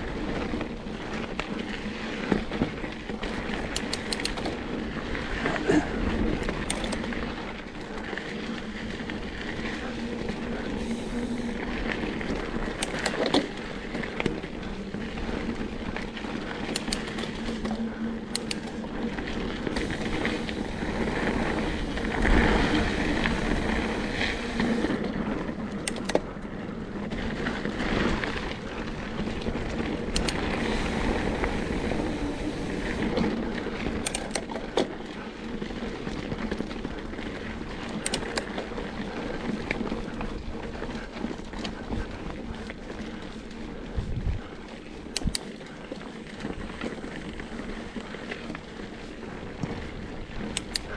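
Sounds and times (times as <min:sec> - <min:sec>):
bike knocking and rattling: 0:00.0 - 0:50.9
bike tyres on dirt trail: 0:00.0 - 0:50.9.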